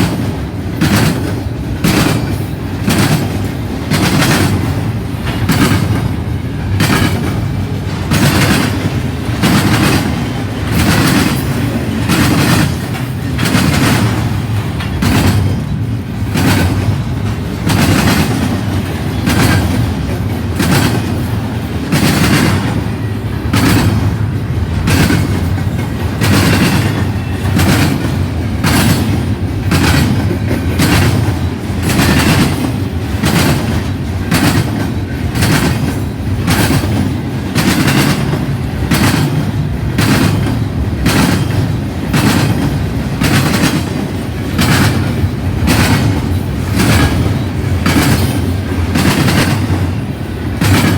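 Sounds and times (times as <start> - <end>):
freight train wheels rumbling: 0.0 - 50.9
wheels clacking on rail: 0.0 - 50.9.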